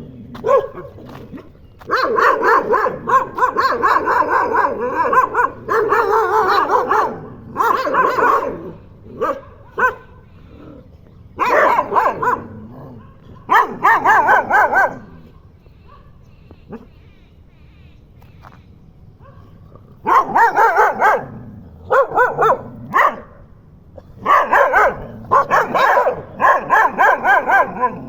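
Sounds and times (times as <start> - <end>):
dogs barking: 0.0 - 16.9, 19.2 - 28.0.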